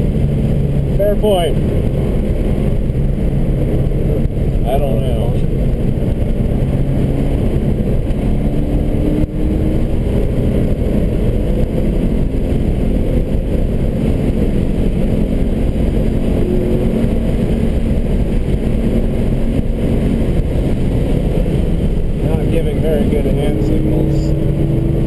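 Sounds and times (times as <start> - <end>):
car engine under load: 0.0 - 25.0
tyre and road rumble: 0.0 - 25.0.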